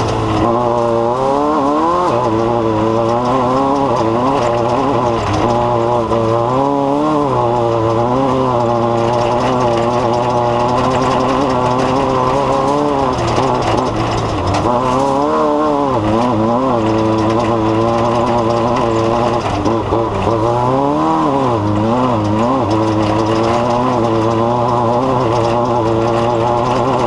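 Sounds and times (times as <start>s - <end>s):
engine running with wavering pitch: 0.0s - 27.0s.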